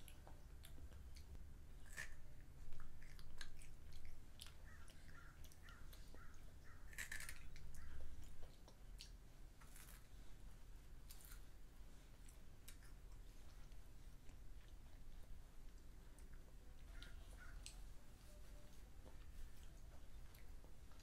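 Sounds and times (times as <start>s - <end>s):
small clicks and mouth sounds: 0.0s - 10.2s, 11.0s - 21.0s
child chewing and crunching sweets: 0.0s - 21.0s.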